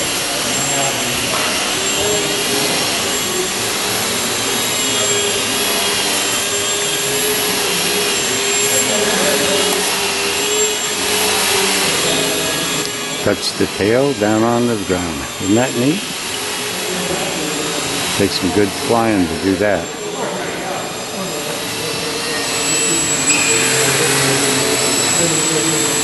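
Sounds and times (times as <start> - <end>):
model airplane motor whine: 0.0 - 14.2, 15.0 - 26.0.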